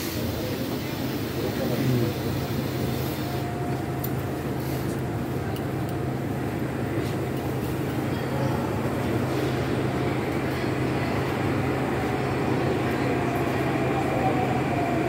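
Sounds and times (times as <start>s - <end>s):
low hum of train equipment: 0.0s - 15.0s
passengers' footsteps and clicks: 0.0s - 15.0s.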